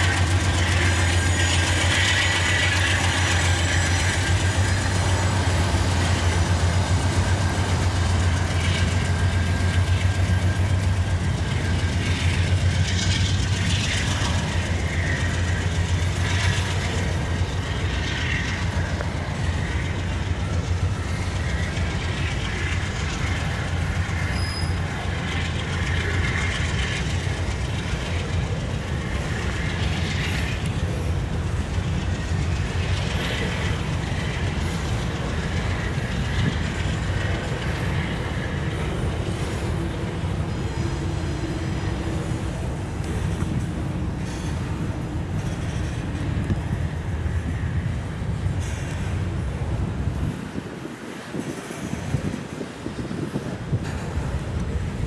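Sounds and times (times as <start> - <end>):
wheel squeal: 0.0 - 43.6, 44.2 - 47.7
train wheels rumbling on rail: 0.0 - 55.0
wheel clickety-clack: 0.0 - 55.0.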